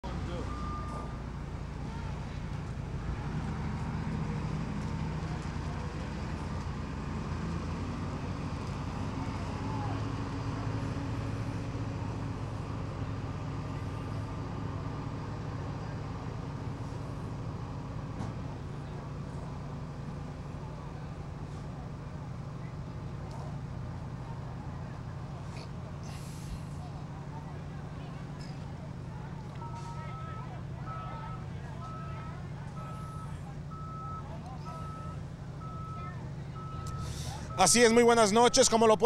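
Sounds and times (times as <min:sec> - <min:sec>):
forklift engine running: 0:00.0 - 0:39.0.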